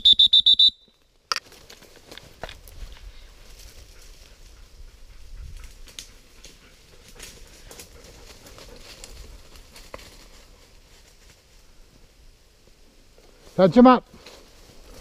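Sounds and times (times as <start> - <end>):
rustling in dry leaves: 1.4 - 4.8, 5.5 - 15.0.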